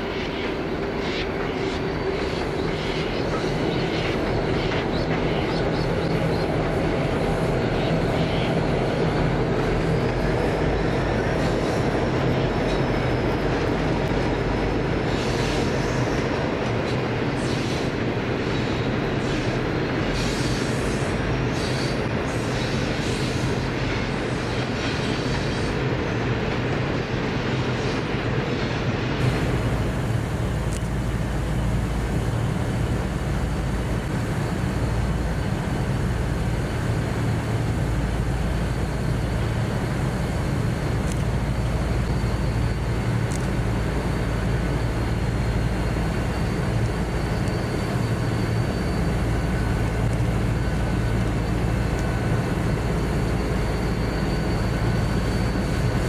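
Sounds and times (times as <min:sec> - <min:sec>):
locomotive engine drone: 0:00.0 - 0:56.0.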